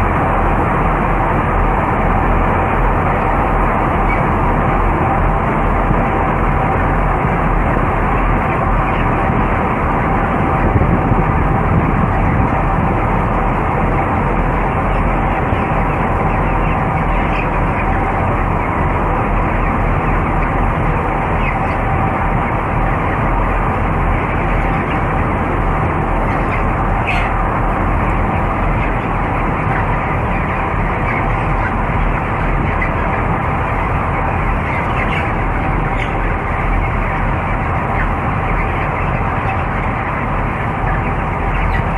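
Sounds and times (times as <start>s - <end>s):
chickens calling: 0.0s - 41.9s
exhaust fans droning: 0.0s - 41.9s
high chick calls: 0.0s - 41.9s.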